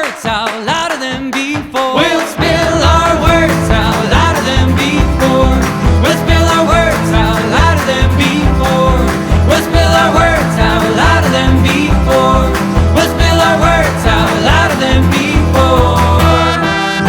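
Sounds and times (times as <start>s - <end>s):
pop song with drums and guitar: 0.0s - 17.0s.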